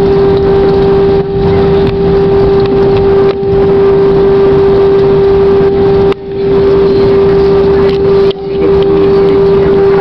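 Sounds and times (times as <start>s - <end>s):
jet engines roaring: 0.0s - 10.0s
steady cabin hum: 0.0s - 10.0s.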